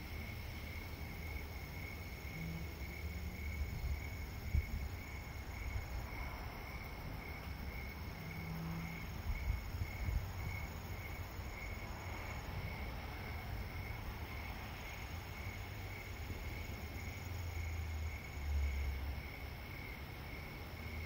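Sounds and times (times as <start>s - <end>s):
crickets chirping: 0.0s - 21.0s
distant city traffic rumble: 0.0s - 21.0s.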